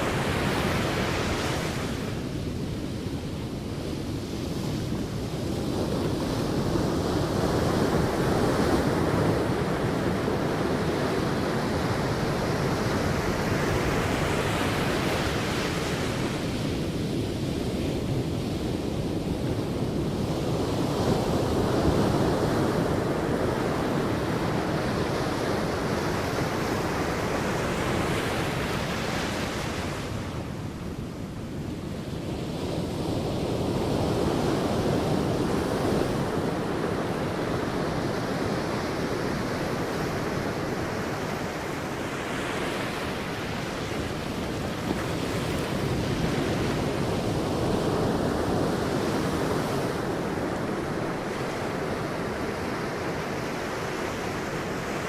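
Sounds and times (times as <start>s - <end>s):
sea surf washing onto beach: 0.0s - 55.0s.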